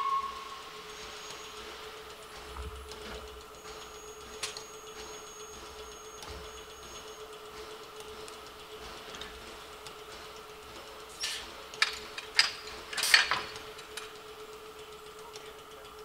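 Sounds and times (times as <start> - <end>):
faint ticking: 0.0 - 12.2, 13.5 - 16.0
steam locomotive hum: 0.0 - 16.0.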